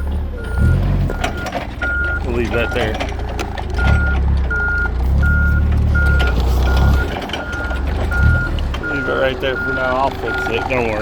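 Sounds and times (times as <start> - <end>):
reversing alarm beeping: 0.0 - 3.2, 3.8 - 11.0
diesel engine rumble: 0.0 - 11.0.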